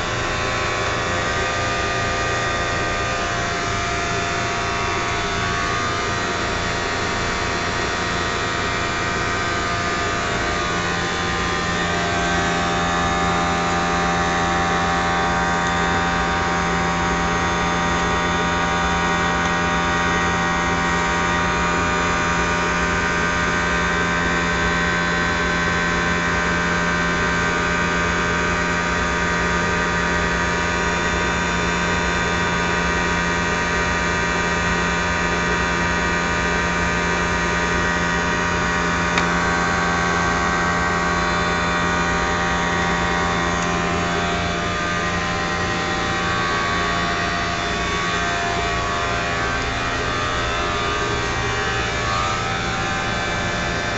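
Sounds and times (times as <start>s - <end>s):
blower motor humming with whine: 0.0s - 53.9s.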